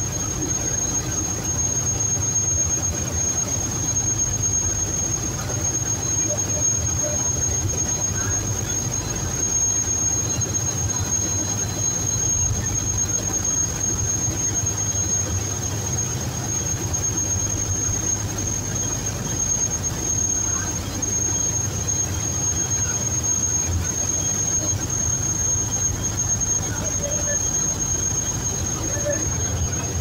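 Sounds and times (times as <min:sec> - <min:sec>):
boat engine rumbling: 0:00.0 - 0:30.0
high-pitched whine: 0:00.0 - 0:30.0.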